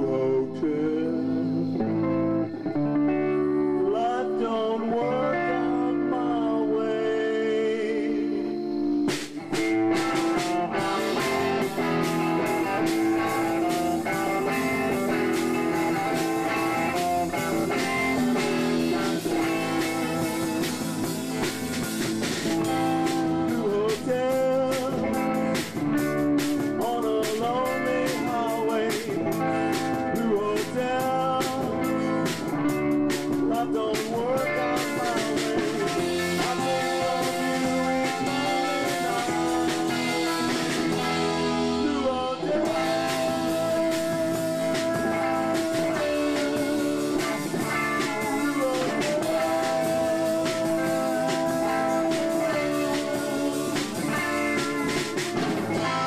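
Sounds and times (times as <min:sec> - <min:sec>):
electric guitar lead: 0:00.0 - 0:56.0
drum kit beat: 0:07.8 - 0:56.0.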